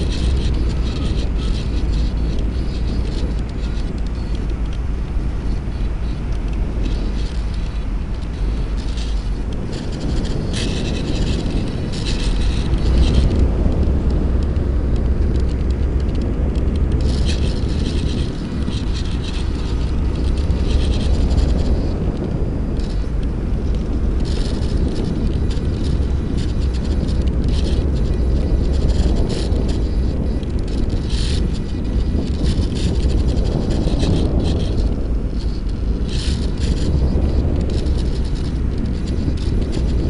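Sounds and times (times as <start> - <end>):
air rushing over microphone: 0.0 - 40.0
high motor whine: 0.0 - 40.0.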